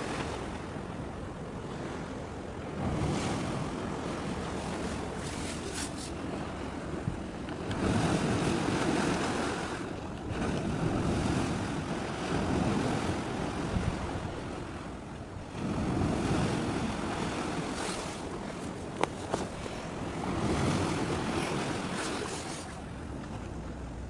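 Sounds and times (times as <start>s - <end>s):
sea waves: 0.0s - 24.0s
wind: 0.0s - 24.0s.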